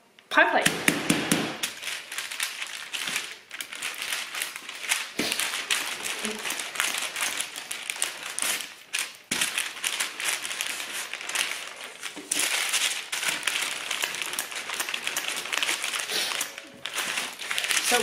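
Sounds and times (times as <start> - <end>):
baking paper crinkling under rolling pin: 0.9 - 18.0.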